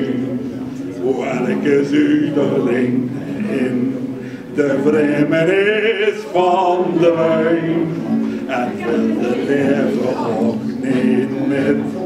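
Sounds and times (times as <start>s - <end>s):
classical guitar: 0.0s - 12.0s
man singing with vibrato: 0.0s - 12.0s.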